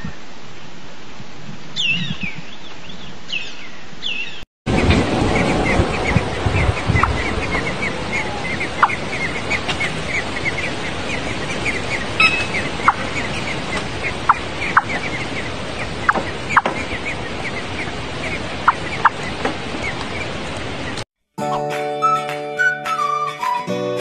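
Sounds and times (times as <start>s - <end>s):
nestling birds cheeping: 1.8s - 21.0s.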